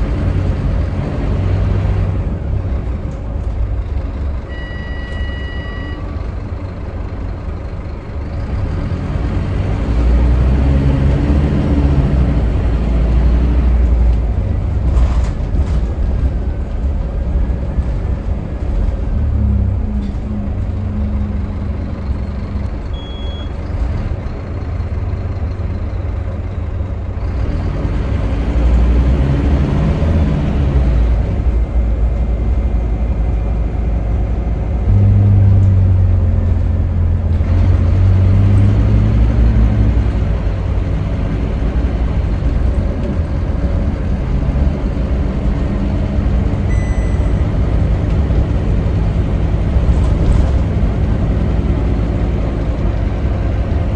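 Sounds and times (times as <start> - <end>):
bus diesel engine running: 0.0 - 53.9
road noise: 0.0 - 53.9.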